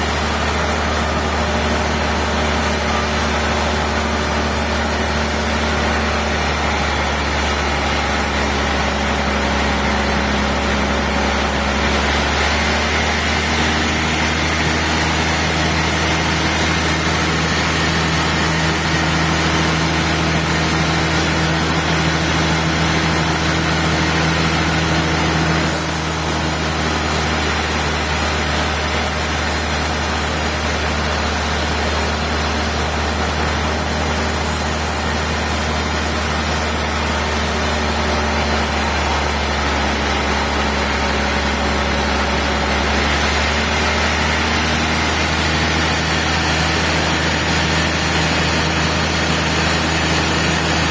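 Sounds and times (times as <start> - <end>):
sawmill machinery hum: 0.0 - 50.9.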